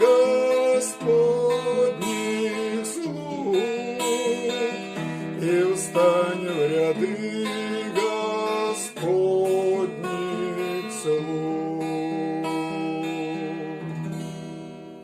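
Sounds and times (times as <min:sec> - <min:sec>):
strummed acoustic guitar hymn: 0:00.0 - 0:15.0.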